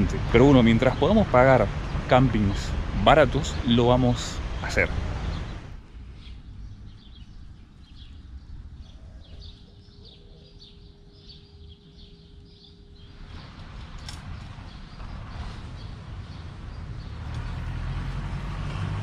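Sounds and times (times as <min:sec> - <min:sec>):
small birds chirping: 0:00.0 - 0:18.8
low outdoor rumble: 0:00.0 - 0:19.0.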